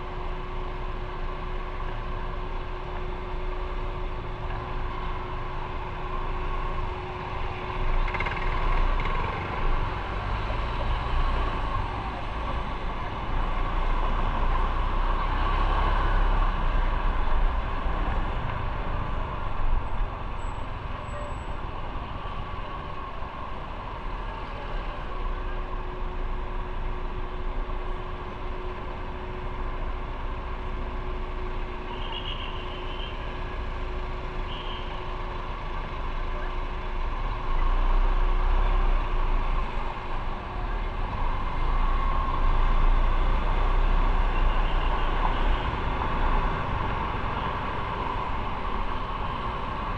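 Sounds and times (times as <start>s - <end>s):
road and wind noise: 0.0s - 49.9s
traffic vehicles: 0.0s - 49.9s.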